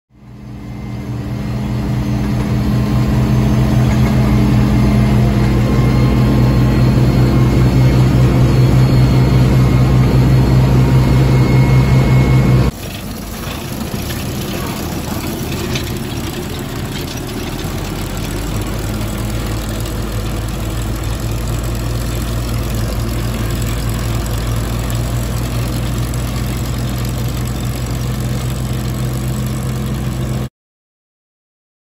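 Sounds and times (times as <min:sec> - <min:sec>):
tractor engine running: 0:00.2 - 0:30.5.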